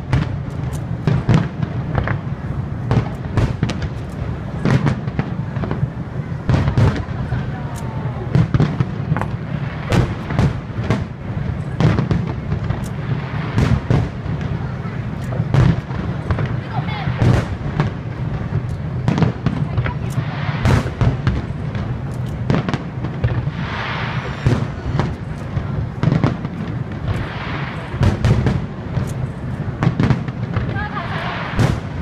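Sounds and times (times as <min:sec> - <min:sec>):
continuous low rumble: 0:00.0 - 0:32.0
firework shells bursting: 0:00.0 - 0:32.0.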